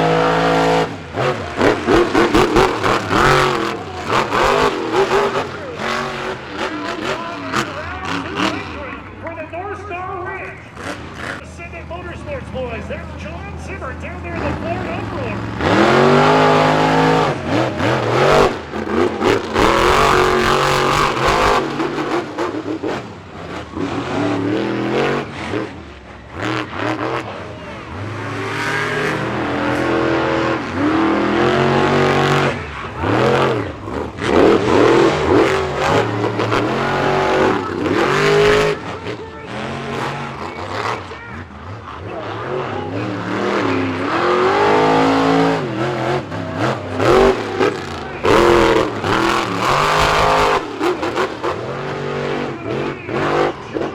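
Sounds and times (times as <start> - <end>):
monster truck engines revving: 0.0 - 53.9.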